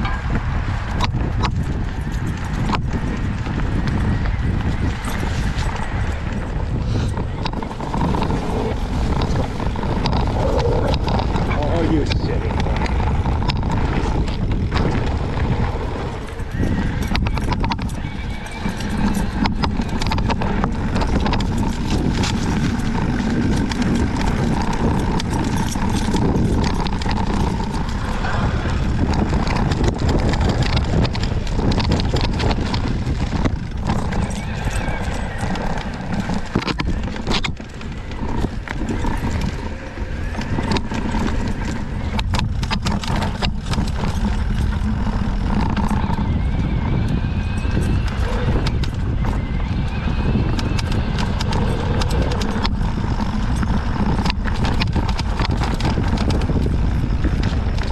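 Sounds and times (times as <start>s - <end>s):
bike clicks and knocks: 0.0s - 46.5s
rumble of tyres and wind: 0.0s - 57.9s
suspension fork creaking: 0.0s - 57.9s.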